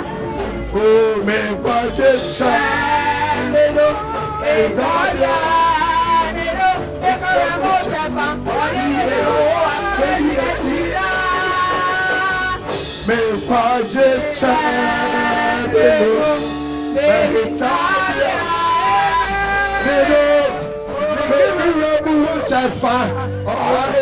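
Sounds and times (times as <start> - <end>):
person singing worship song: 0.0 - 24.0.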